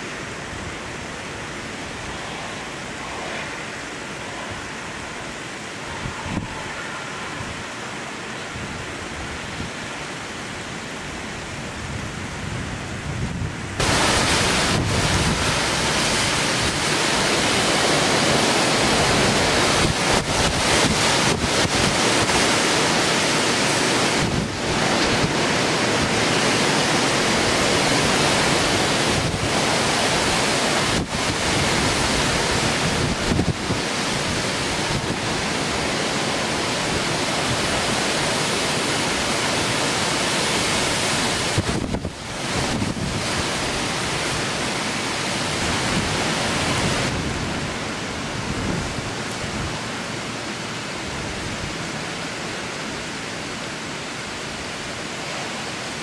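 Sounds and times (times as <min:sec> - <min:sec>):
storm wind buffeting microphone: 0:00.0 - 0:52.9.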